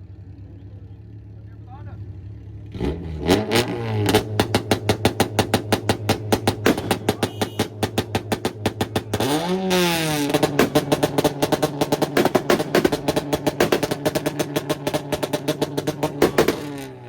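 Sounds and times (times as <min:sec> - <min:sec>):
car engine revving: 0:00.8 - 0:17.0
car exhaust popping rapidly: 0:03.2 - 0:17.0.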